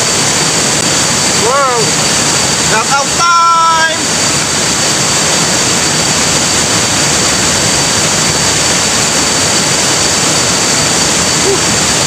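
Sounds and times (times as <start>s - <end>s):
waterfall rushing water: 0.0s - 12.0s.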